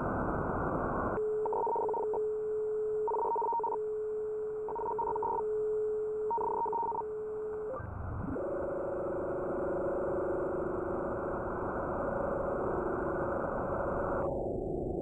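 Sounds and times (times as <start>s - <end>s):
steady low radio tone: 0.0s - 15.0s.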